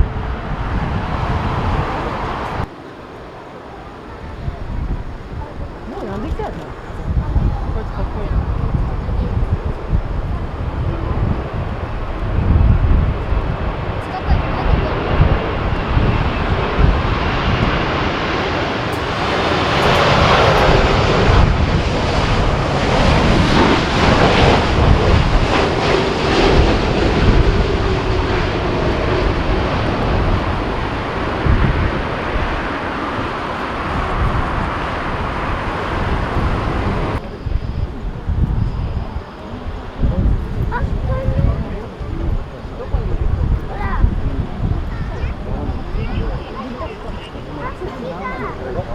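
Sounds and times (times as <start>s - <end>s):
jet engines whining: 0.0s - 48.9s
wind rumble on microphone: 0.0s - 48.9s.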